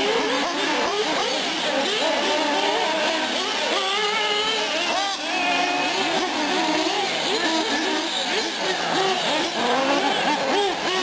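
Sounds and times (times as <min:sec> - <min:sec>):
rc car engines whining: 0:00.0 - 0:11.0.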